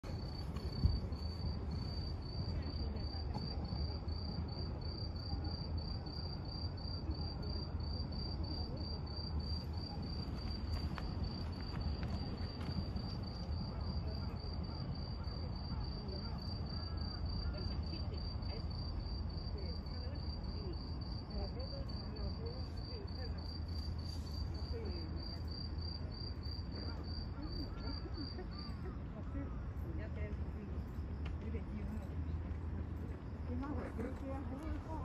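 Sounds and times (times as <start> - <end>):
cricket chirping: 0.0 - 35.0.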